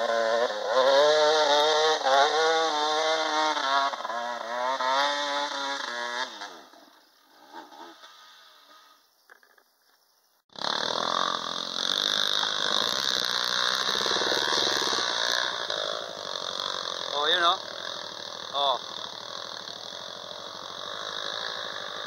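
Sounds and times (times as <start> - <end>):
dirt bike engines running: 0.0 - 9.0, 10.5 - 22.0.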